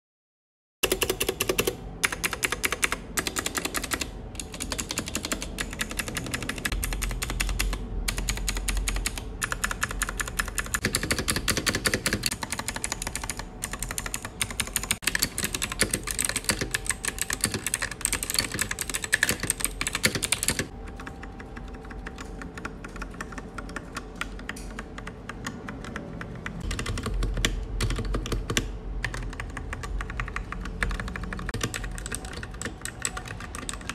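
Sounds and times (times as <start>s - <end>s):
mechanical keyboard typing: 0.8s - 33.9s.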